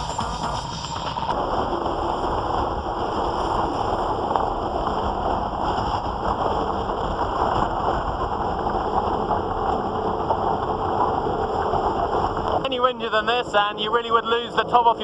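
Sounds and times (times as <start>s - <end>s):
rushing water: 0.0s - 15.0s
wind on microphone: 0.0s - 15.0s.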